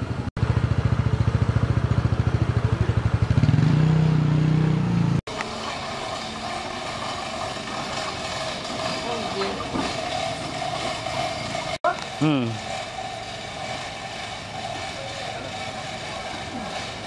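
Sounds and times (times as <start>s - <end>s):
small engine running: 0.2s - 17.0s.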